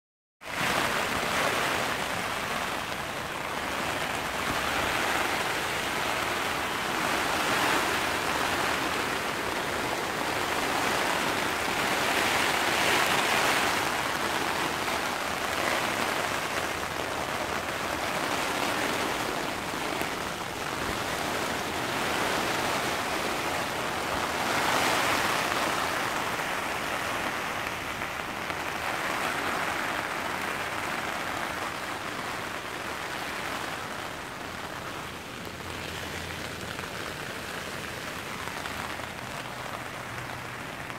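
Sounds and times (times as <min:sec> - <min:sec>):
heavy rain on tent: 0:00.4 - 0:40.9
wind buffeting tent: 0:00.4 - 0:40.9.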